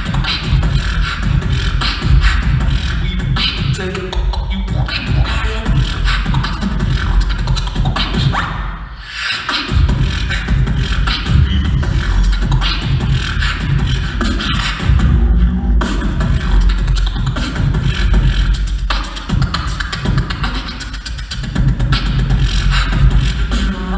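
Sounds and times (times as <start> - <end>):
beatboxing with heavy bass: 0.0 - 23.9.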